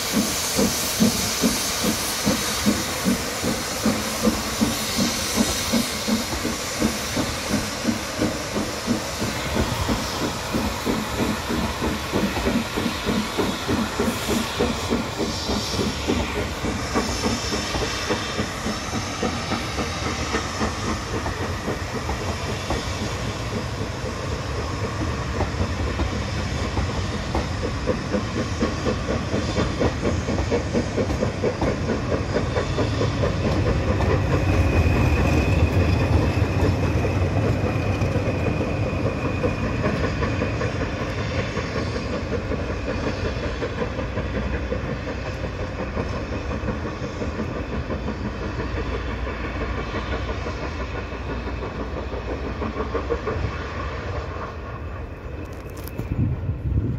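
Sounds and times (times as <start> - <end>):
hiss of escaping steam: 0.0 - 56.9
steam locomotive exhaust beats: 0.0 - 56.9
wheels rumbling on rails: 0.0 - 56.9.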